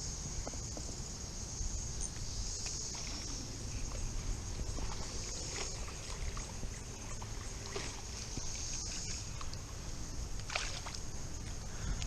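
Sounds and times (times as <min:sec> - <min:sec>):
cicadas chorus: 0:00.0 - 0:12.0.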